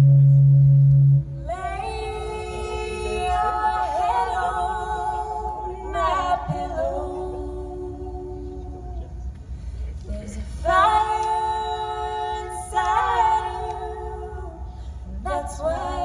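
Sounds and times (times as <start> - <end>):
wordless harmony singing: 1.2 - 16.0.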